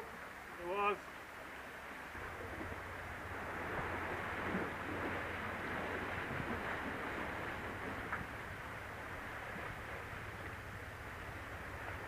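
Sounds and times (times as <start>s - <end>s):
sea washing against rocks: 2.1s - 12.0s
wind on microphone: 2.1s - 12.0s.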